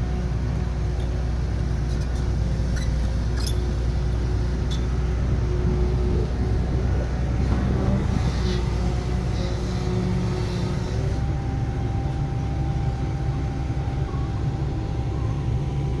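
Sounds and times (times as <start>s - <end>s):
heavy machinery diesel engine running: 0.0s - 16.0s.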